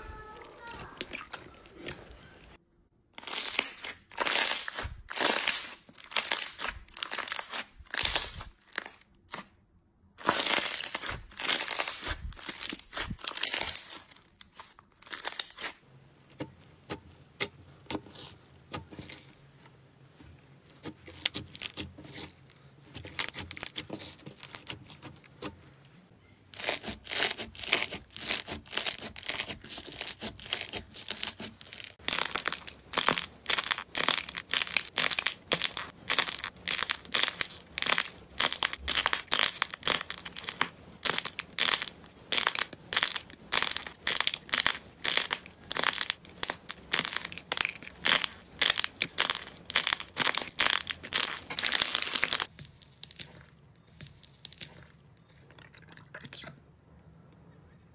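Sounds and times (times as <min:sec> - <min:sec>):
slime squelching and popping: 0:00.1 - 0:02.6, 0:03.2 - 0:09.5, 0:10.2 - 0:19.4, 0:20.2 - 0:25.7, 0:26.5 - 0:55.6
textured slime crackling: 0:03.2 - 0:09.5, 0:10.2 - 0:55.4.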